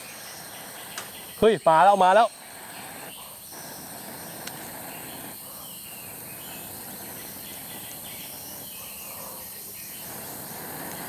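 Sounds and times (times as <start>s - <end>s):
forest insects trilling: 0.0s - 11.0s.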